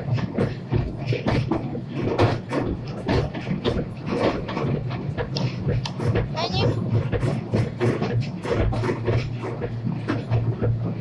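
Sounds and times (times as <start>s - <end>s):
low train rumble: 0.0s - 11.0s
train wheels clattering: 0.0s - 11.0s.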